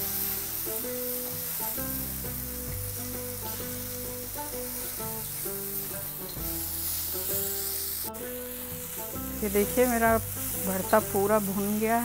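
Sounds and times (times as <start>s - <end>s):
background music: 0.0s - 12.0s
vegetables sizzling in frying pan: 0.0s - 12.0s.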